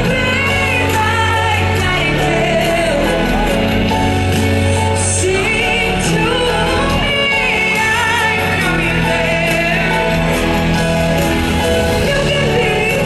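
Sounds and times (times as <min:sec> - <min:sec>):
instrumental accompaniment: 0:00.0 - 0:13.0
woman singing with vibrato: 0:00.0 - 0:13.0.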